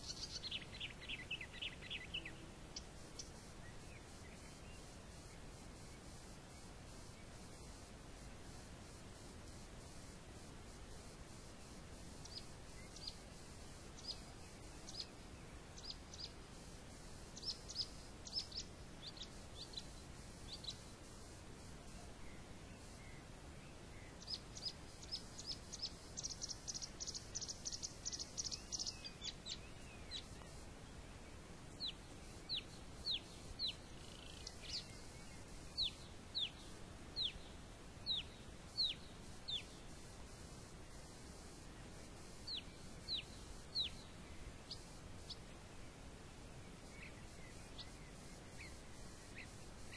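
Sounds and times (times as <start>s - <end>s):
small bird chirping: 0.0s - 7.9s, 11.6s - 23.2s, 23.8s - 31.0s, 31.7s - 45.5s, 46.7s - 49.9s
faint outdoor hiss: 0.0s - 49.9s.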